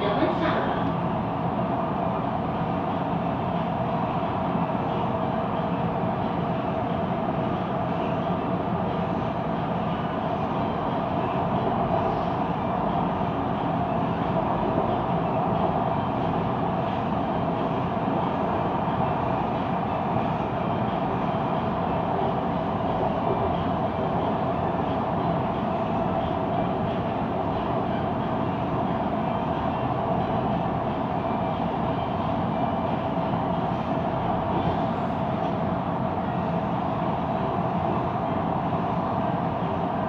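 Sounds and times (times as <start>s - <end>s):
constant hum: 0.0s - 40.0s.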